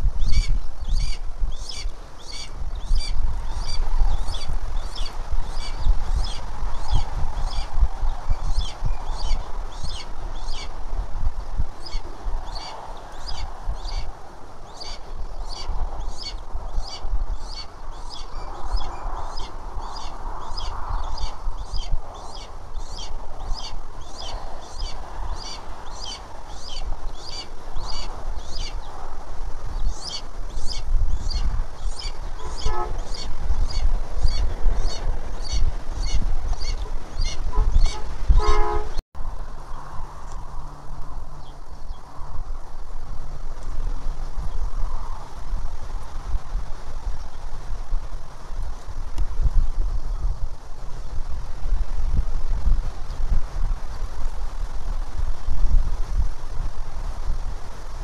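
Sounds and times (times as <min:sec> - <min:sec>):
wind rumbling on microphone: 0:00.0 - 0:58.0.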